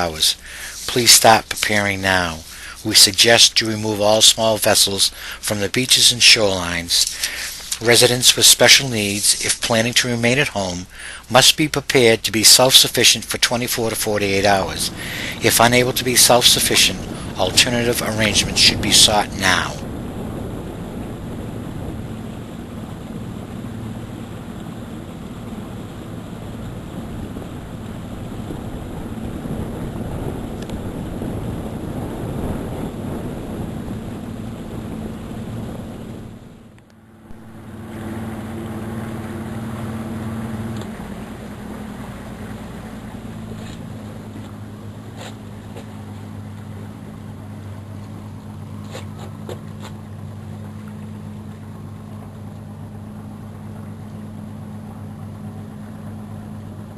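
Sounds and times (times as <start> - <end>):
engine humming: 0.0 - 56.9
rushing wind: 0.0 - 56.9.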